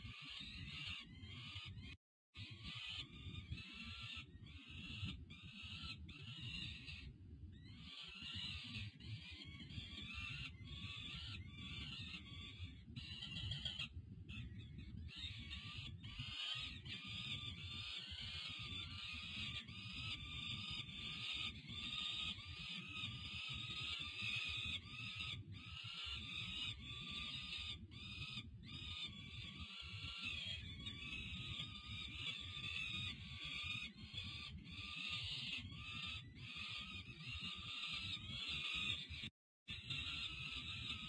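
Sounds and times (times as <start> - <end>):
young falcons screeching: 7.7 - 41.0.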